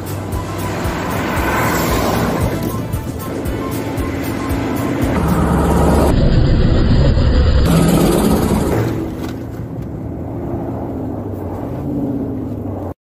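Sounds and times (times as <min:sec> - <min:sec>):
diesel truck driving on ice: 0:00.0 - 0:13.0.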